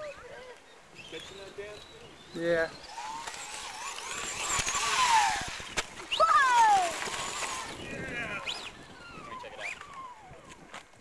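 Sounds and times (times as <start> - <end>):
electric motor whining: 1.0 - 10.9.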